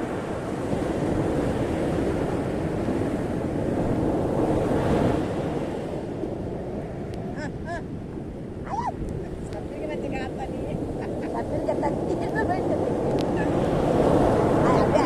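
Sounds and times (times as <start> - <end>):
ocean waves on a beach: 0.0 - 15.0.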